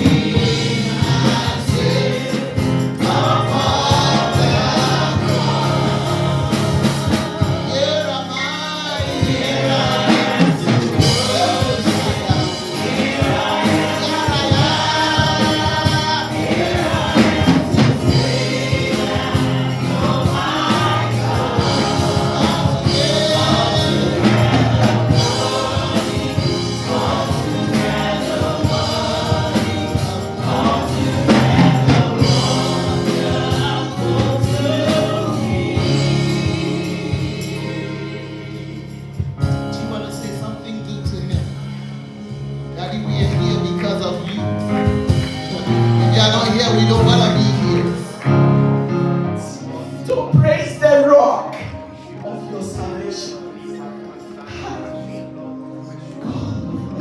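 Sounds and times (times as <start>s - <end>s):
band with bass and beat: 0.0s - 38.2s, 41.2s - 48.8s
choir singing: 0.0s - 57.0s.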